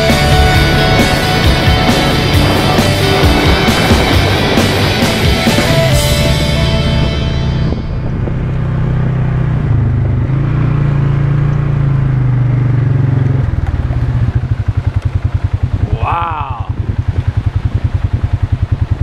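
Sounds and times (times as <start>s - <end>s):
quad bike engine: 0.0s - 19.0s.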